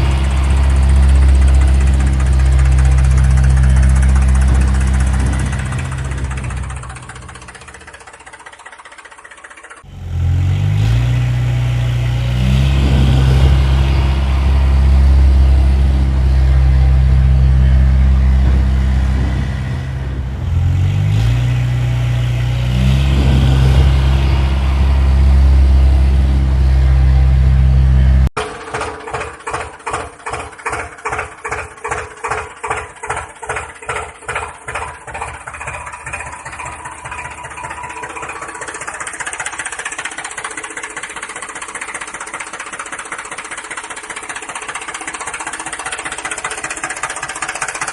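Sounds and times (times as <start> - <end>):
engine running and revving: 0.0 - 47.9
rhythmic engine chugging: 0.0 - 47.9.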